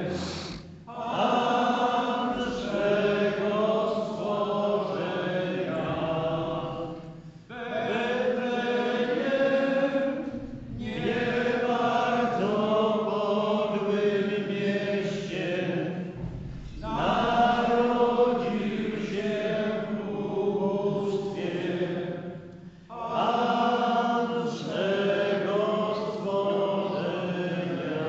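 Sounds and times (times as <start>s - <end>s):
group singing in unison: 0.0s - 28.0s.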